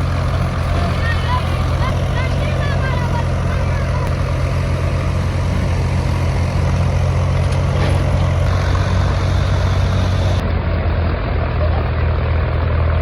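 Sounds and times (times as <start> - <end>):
heavy engine droning: 0.0 - 13.0.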